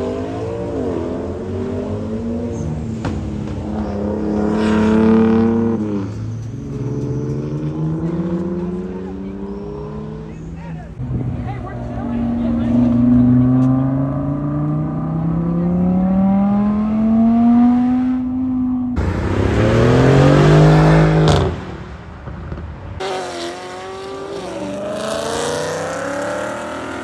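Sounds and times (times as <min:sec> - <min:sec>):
car engine revving up: 0:00.0 - 0:10.5, 0:11.8 - 0:21.9, 0:23.0 - 0:27.0
car engine accelerating: 0:00.0 - 0:27.0.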